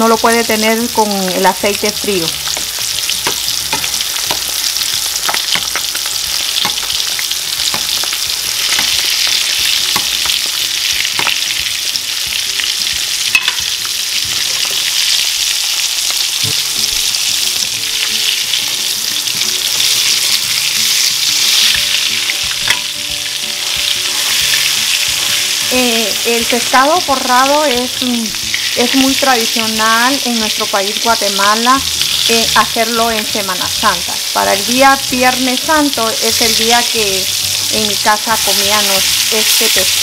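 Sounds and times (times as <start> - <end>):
fish frying in oil: 0.0 - 40.0.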